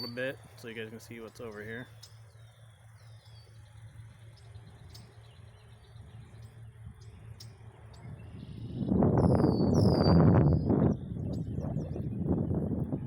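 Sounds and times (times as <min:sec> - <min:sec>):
faint bird chirps: 0:00.0 - 0:12.6
steady low hum: 0:00.0 - 0:13.0.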